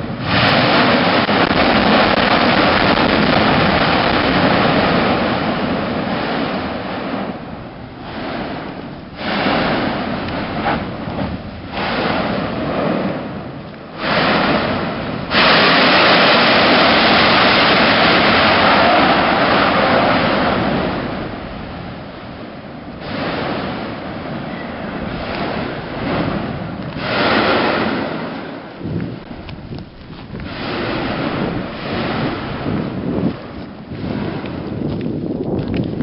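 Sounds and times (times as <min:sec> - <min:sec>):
volcano roaring: 0:00.0 - 0:36.0.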